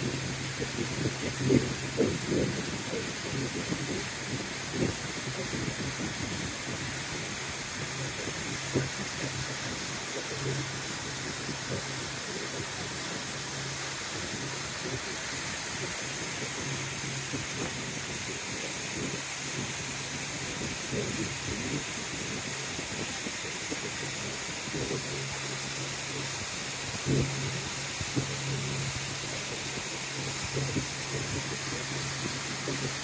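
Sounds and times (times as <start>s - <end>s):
boat motor humming: 0.0s - 21.6s, 22.2s - 33.0s
wind and water rushing: 0.0s - 33.0s.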